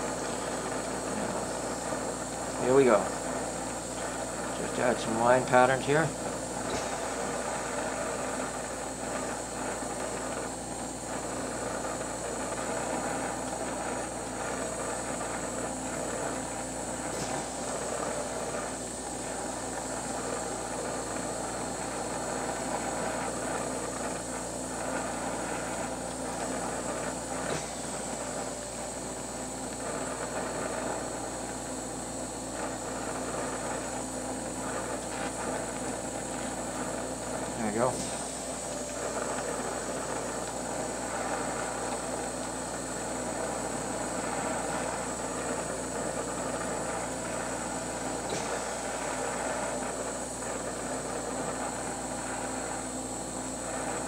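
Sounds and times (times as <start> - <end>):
torch flame hissing: 0.0 - 54.0.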